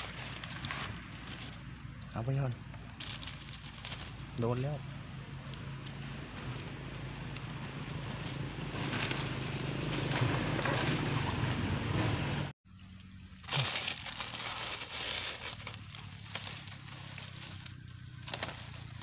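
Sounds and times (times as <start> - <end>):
dry leaf litter rustling: 0.0 - 1.9, 2.9 - 11.2, 13.2 - 19.0.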